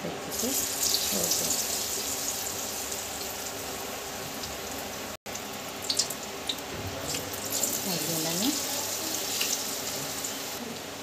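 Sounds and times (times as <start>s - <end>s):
food sizzling in hot oil: 0.3s - 11.0s.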